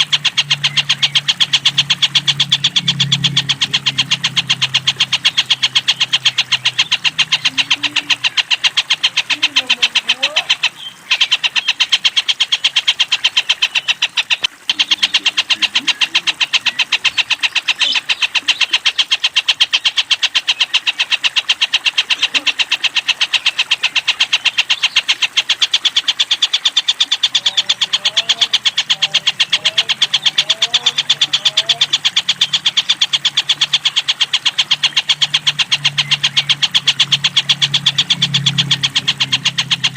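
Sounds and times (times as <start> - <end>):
kingfisher rattling call: 0.0 - 39.9.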